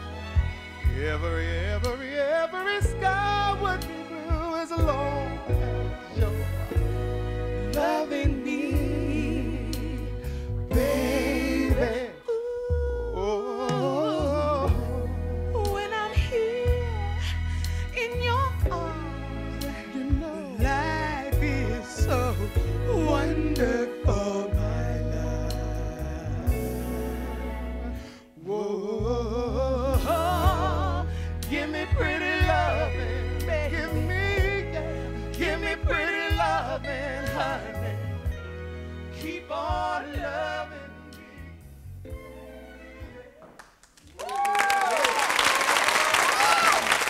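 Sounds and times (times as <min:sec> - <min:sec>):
duet singing soul ballad: 0:00.0 - 0:42.4
band with low bass: 0:02.8 - 0:12.1, 0:12.7 - 0:28.0, 0:29.0 - 0:43.2.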